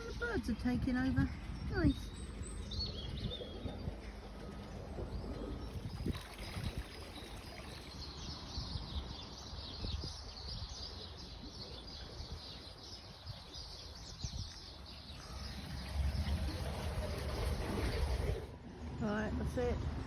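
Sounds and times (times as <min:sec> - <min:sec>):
small birds chirping: 0:00.0 - 0:19.8.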